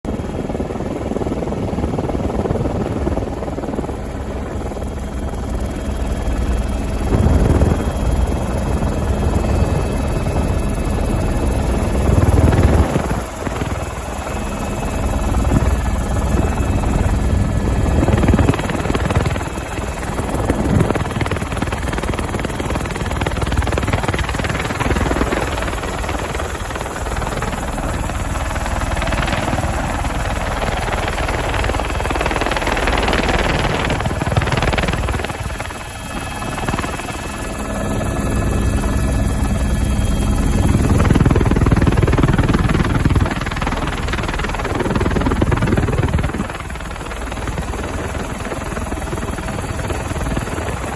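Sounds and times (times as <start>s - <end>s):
helicopter rotor and engine: 0.0s - 50.9s.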